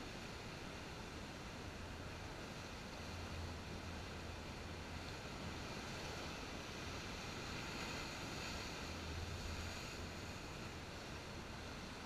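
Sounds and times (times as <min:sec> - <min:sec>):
muffled waves breaking on rocks: 0:00.0 - 0:12.0.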